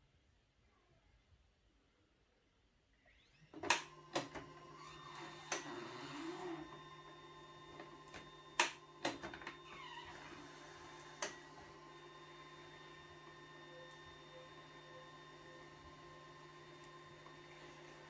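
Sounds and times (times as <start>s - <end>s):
printer motor and fan humming: 3.4s - 18.0s.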